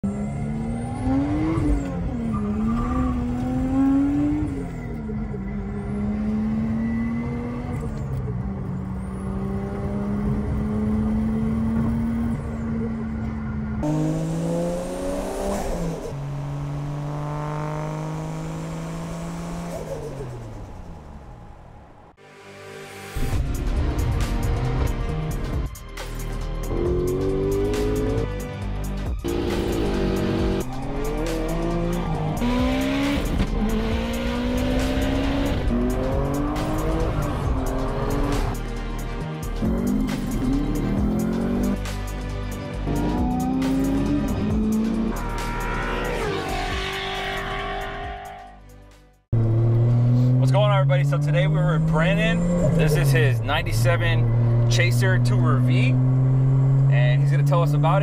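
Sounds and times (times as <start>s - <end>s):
turbocharged car engine revving: 0.0s - 21.1s, 26.6s - 48.4s, 49.3s - 58.0s.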